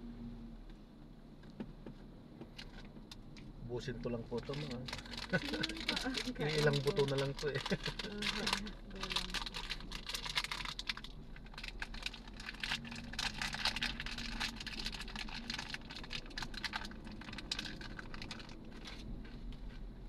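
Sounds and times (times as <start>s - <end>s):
low hum in vehicle cabin: 0.0s - 20.0s.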